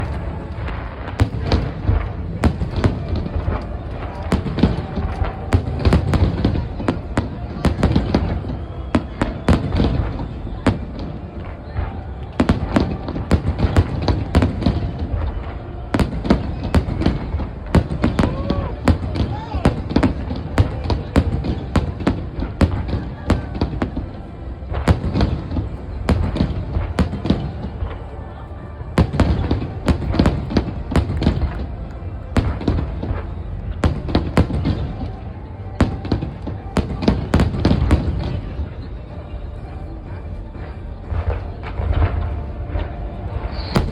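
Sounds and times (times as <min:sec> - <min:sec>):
continuous low rumble: 0:00.0 - 0:43.9
fireworks bangs: 0:00.0 - 0:43.9.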